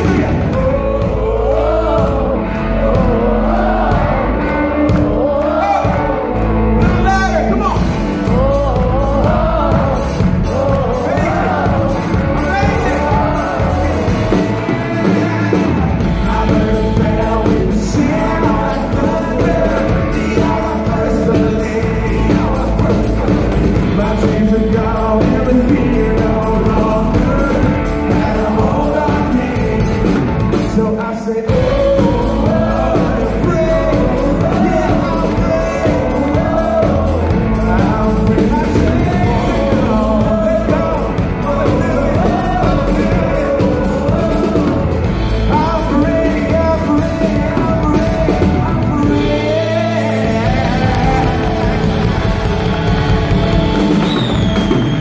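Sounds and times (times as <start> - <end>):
man singing: 0.0 - 55.0.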